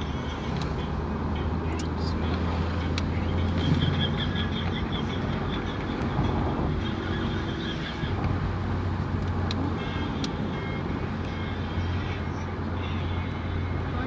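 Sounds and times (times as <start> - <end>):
road noise: 0.0 - 14.0
vehicle hum: 0.0 - 14.0.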